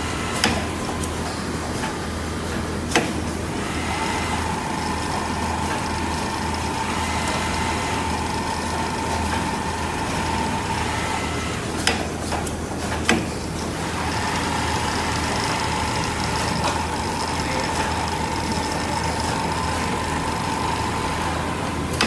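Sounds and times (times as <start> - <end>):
sewing machine humming: 0.0 - 22.0.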